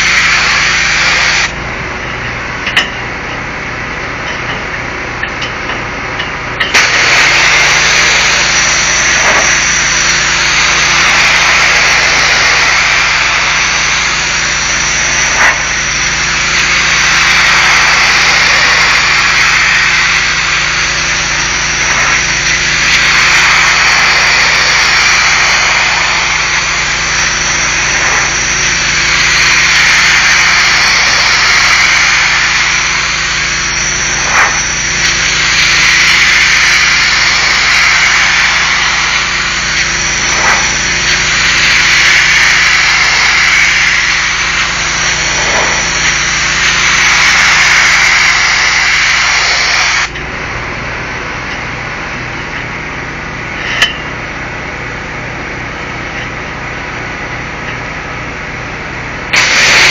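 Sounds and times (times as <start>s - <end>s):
pressure washer spray on brick: 0.0s - 1.7s, 2.4s - 50.2s, 59.2s - 59.9s.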